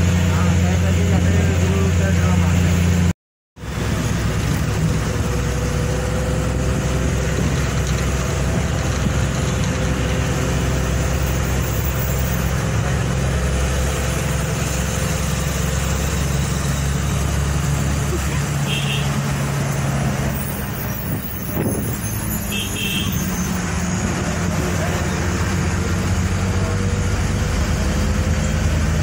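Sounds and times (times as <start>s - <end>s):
road rumble: 0.0s - 29.0s
vehicle engine hum: 0.0s - 29.0s.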